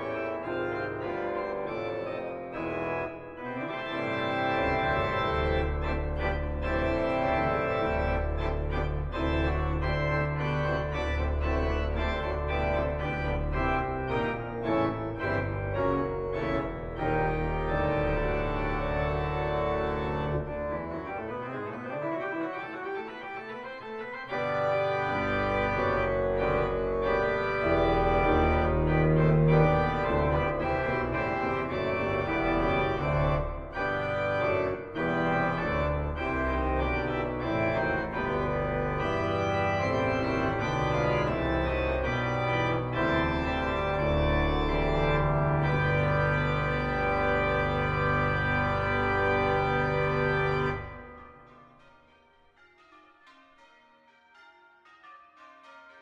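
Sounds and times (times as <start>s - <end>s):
organ playing sustained chords: 0.0s - 53.9s.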